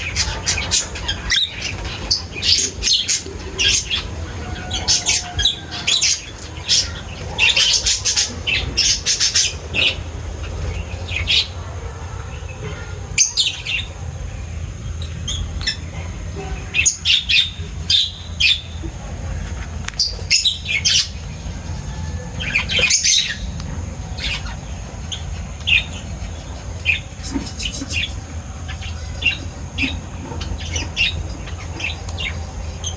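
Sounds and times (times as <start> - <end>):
birds chirping and squawking: 0.0 - 32.9
steady low hum: 0.0 - 32.9.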